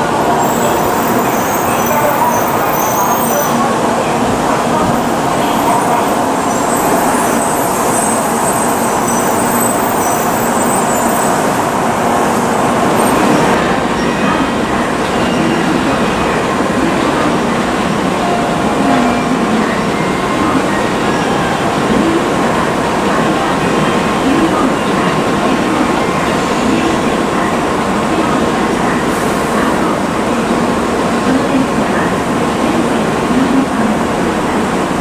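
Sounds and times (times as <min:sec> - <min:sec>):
train rolling out: 0:00.0 - 0:35.0
train standing at platform: 0:00.0 - 0:35.0.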